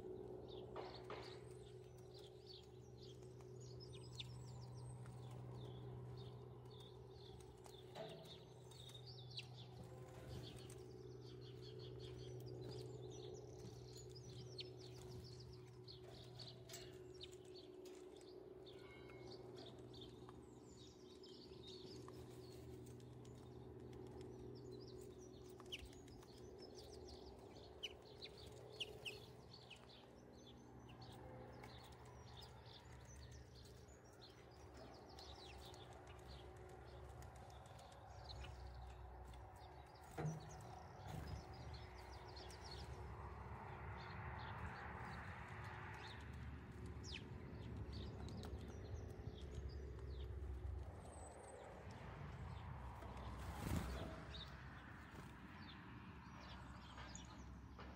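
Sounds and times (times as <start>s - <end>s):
low steady hum: 0.0s - 57.9s
small birds chirping: 0.0s - 57.9s.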